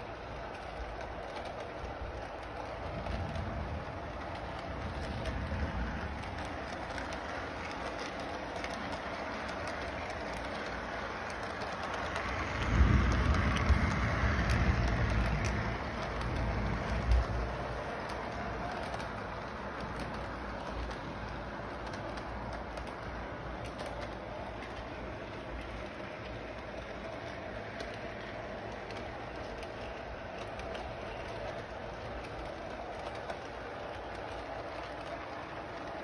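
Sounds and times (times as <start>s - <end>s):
model train rumbling on track: 0.0s - 36.0s.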